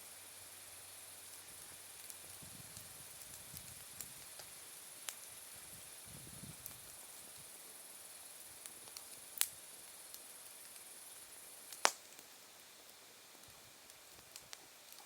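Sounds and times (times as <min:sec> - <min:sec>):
insects chirping: 0:00.0 - 0:13.2
wood fire crackling and popping: 0:00.1 - 0:15.0.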